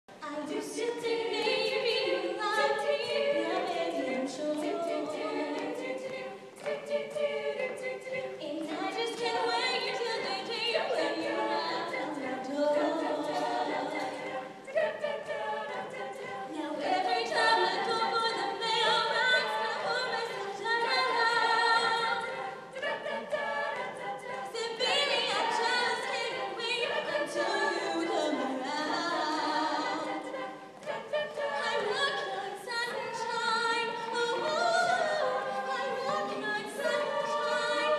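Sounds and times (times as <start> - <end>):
women's choir singing in harmony: 0.1 - 37.9.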